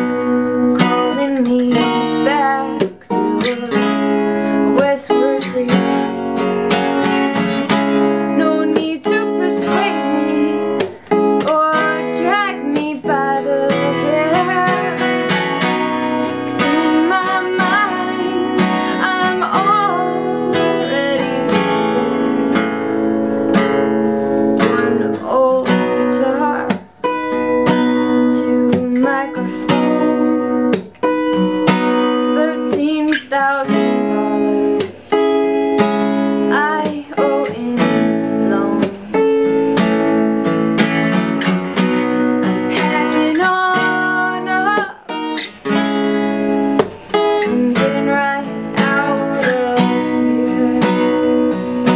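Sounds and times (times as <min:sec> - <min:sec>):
woman singing: 0:00.0 - 0:23.2, 0:24.5 - 0:51.9
strummed acoustic guitar: 0:00.0 - 0:51.9.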